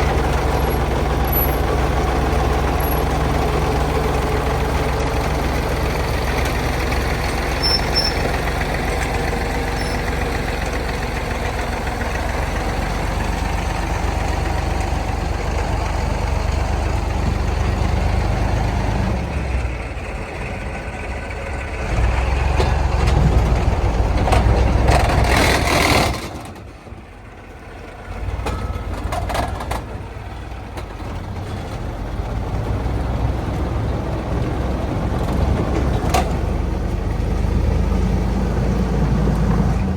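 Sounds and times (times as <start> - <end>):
truck engine under load: 0.0 - 39.9.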